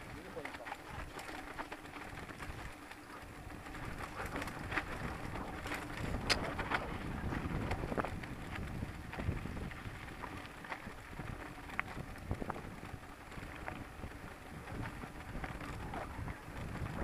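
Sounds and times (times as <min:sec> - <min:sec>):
bike clicking and rattling: 0:00.0 - 0:17.0
bike tyres crunching over gravel: 0:00.0 - 0:17.0.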